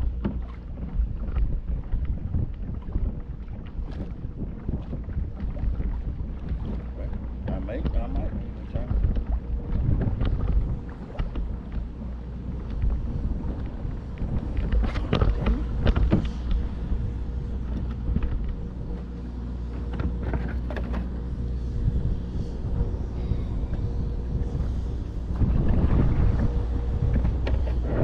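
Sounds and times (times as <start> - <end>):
faint steady hum: 0.0 - 28.0
wind rumble on microphone: 0.0 - 28.0.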